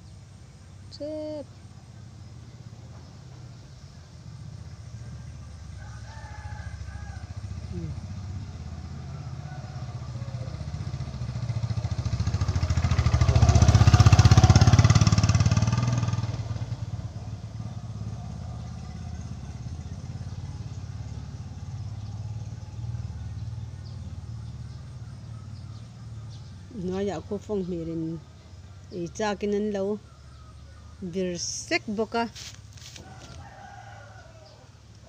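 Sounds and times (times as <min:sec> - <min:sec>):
low steady engine hum: 0:00.0 - 0:35.0
motorcycle passing by: 0:00.0 - 0:35.0.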